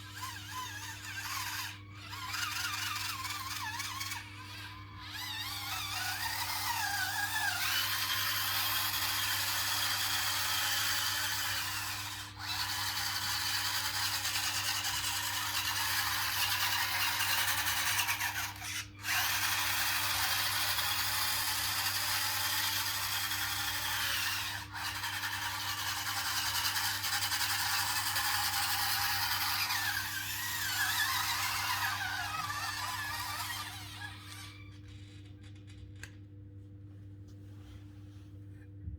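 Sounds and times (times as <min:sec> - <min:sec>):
electric toy motors whining: 0:00.0 - 0:36.2.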